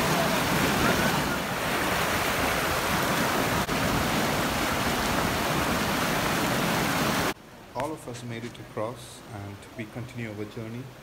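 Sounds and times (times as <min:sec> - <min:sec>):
stream rushing over boulders: 0:00.0 - 0:11.0.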